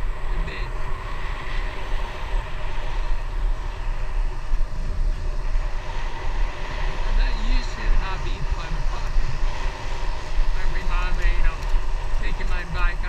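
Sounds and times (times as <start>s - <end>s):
tyre road noise rumble: 0.0s - 13.0s
wind rushing over microphone: 0.0s - 13.0s.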